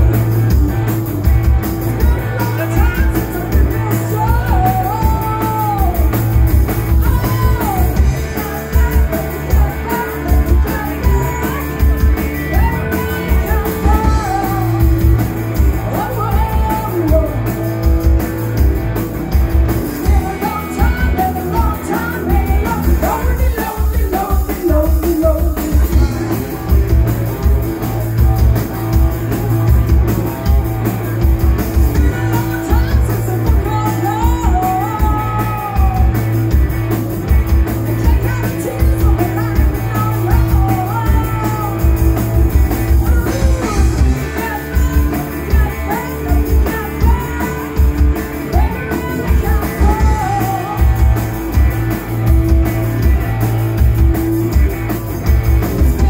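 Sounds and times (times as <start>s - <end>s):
bass guitar: 0.0s - 56.0s
electric guitars: 0.0s - 56.0s
person singing: 1.8s - 17.7s, 19.8s - 30.8s, 31.5s - 36.6s, 37.6s - 51.9s.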